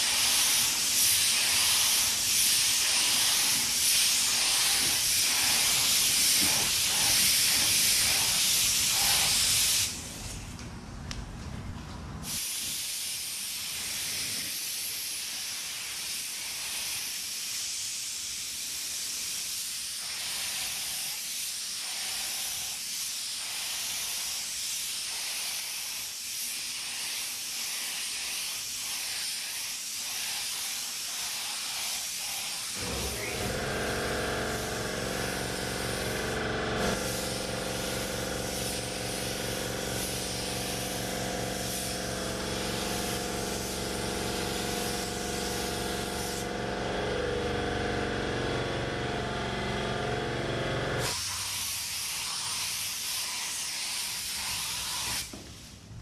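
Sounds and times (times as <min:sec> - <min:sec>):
spray gun hissing: 0:00.0 - 0:10.1, 0:12.2 - 0:46.7, 0:51.0 - 0:55.7.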